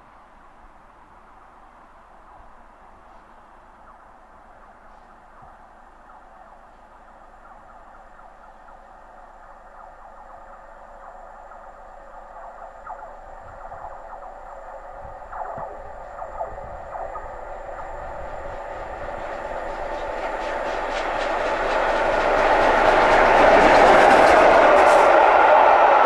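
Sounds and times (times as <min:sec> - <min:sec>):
steam locomotive approaching: 0:01.2 - 0:26.0.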